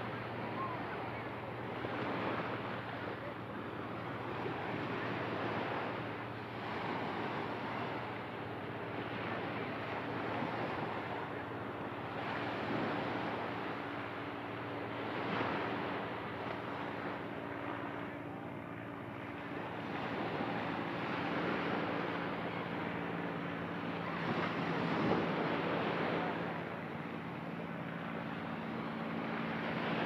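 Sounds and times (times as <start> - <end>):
faint low hum: 0.0 - 30.0
ocean surf washing onto beach: 0.0 - 30.0.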